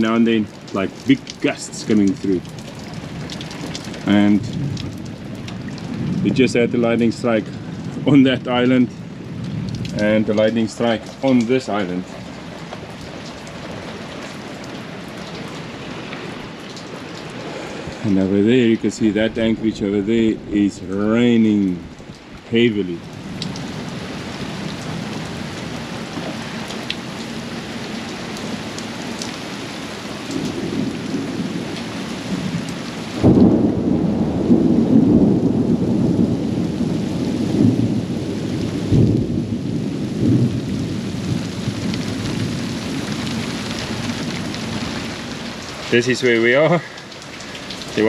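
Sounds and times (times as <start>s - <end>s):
low rumble of thunder: 0.0s - 29.2s, 30.2s - 45.7s
rain hissing: 0.0s - 48.0s.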